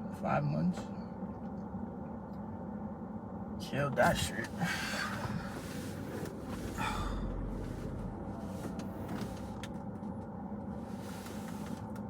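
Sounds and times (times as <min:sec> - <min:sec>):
car engine humming: 0:01.4 - 0:12.0.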